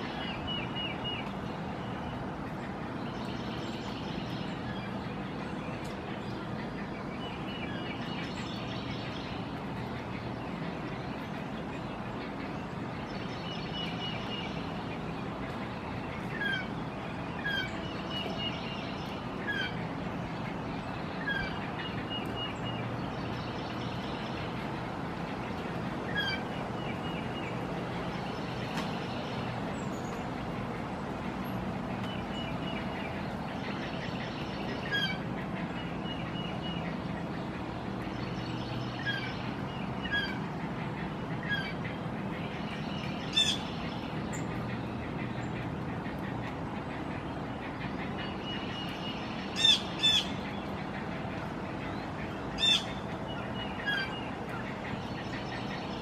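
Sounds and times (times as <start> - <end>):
birds chirping and clicking: 0.0 - 56.0.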